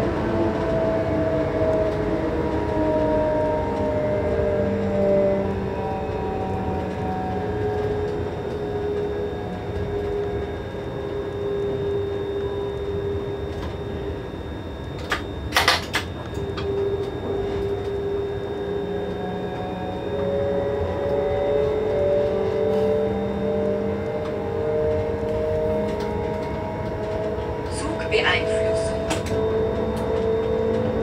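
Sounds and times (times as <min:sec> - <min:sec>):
electric locomotive running: 0:00.0 - 0:31.0
traction motor whine: 0:00.0 - 0:31.0.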